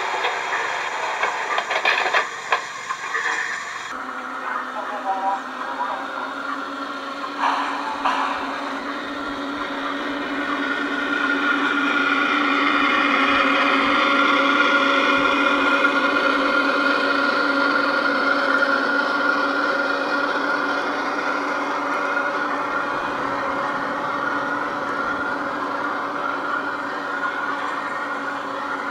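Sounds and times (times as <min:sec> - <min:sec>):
model locomotive motor whining: 0:00.0 - 0:28.9.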